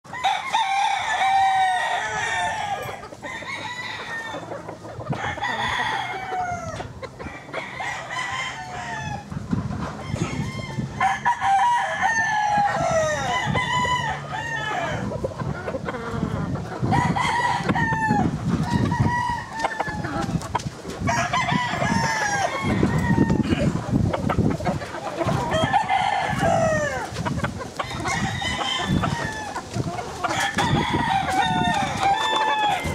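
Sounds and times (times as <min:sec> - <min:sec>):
chickens clucking: 0:00.1 - 0:32.9
roosters crowing: 0:00.1 - 0:32.9.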